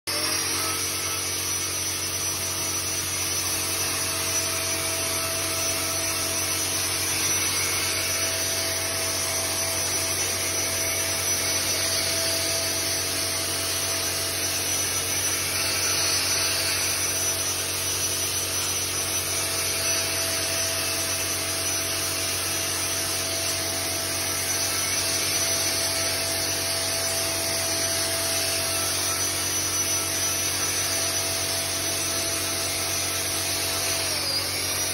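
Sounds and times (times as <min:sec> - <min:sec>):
electric blower rushing air: 0:00.1 - 0:32.2.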